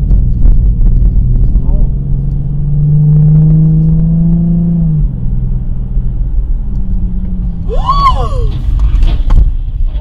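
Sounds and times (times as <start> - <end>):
car engine: 0.0 - 10.0.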